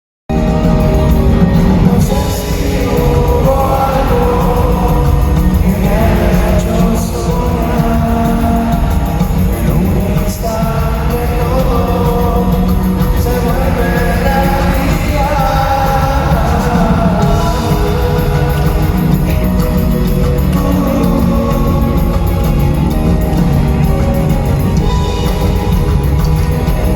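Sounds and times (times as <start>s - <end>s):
rock band playing: 0.3s - 26.9s
person singing: 0.5s - 26.9s.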